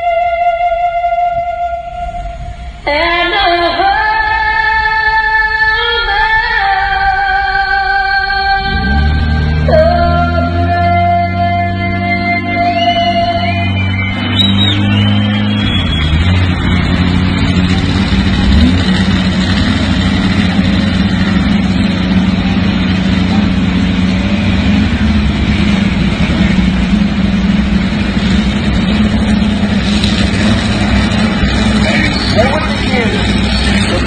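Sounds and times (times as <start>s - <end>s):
loud steady motor hum: 0.0s - 34.0s
noisy rush: 0.0s - 34.0s.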